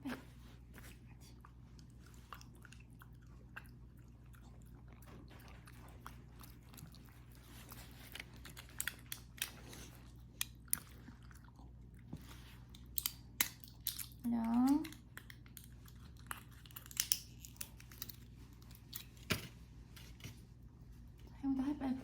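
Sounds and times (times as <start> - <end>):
chewing crunchy food: 0.8 - 19.3.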